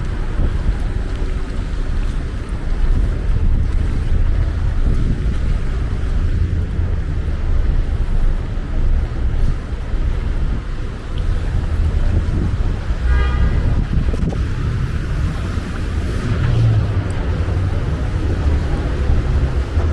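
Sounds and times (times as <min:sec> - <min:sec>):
faint street noise: 0:00.0 - 0:19.9
wind buffeting microphone: 0:00.0 - 0:19.9.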